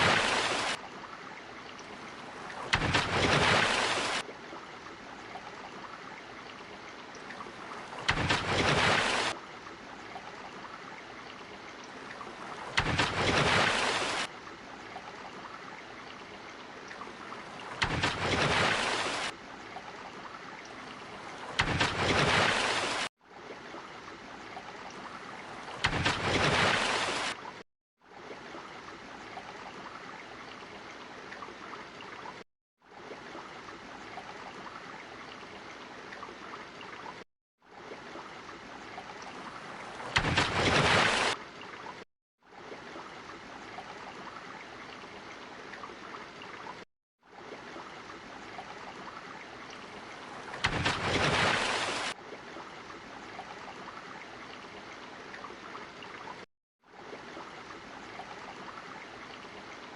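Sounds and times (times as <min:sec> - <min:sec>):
rush of water: 0:00.0 - 0:59.9
steady water noise: 0:00.0 - 0:59.9.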